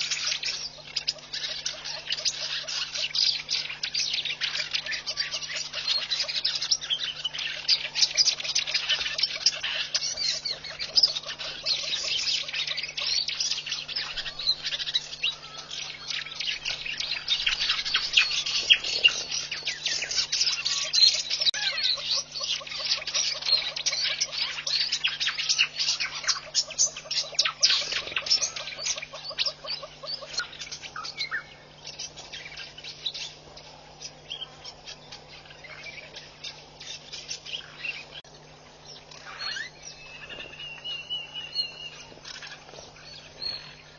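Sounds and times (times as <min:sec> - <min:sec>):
low electrical hum: 0:00.0 - 0:43.9
small birds chirping: 0:00.0 - 0:43.9.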